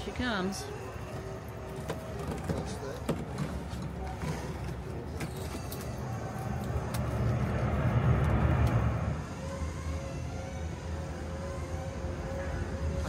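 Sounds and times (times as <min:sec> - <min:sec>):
motor low rumble: 0:00.0 - 0:13.0.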